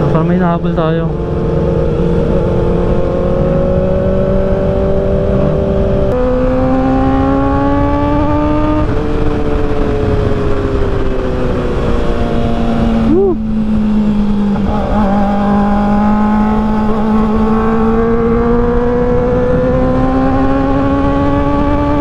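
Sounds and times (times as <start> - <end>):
motorcycle engine accelerating: 0.0 - 22.0
wind noise on microphone: 1.1 - 22.0.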